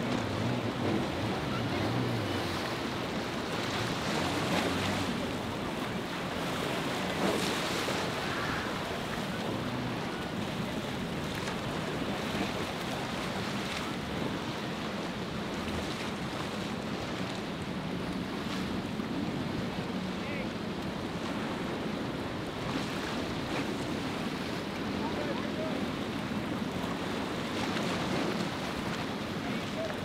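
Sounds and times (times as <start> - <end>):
low boat engine hum: 0.0 - 30.0
waves churning: 0.0 - 30.0.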